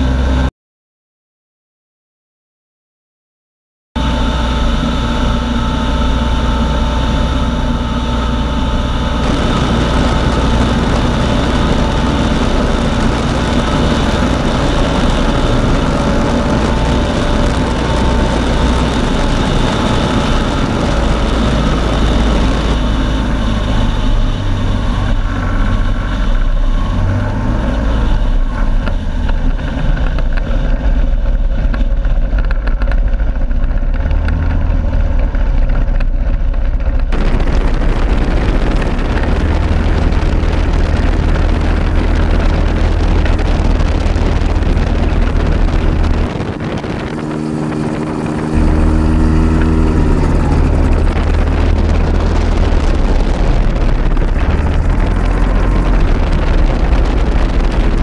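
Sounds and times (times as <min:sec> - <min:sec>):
ultralight engine and propeller running: 0:00.0 - 0:00.5, 0:04.0 - 0:58.0.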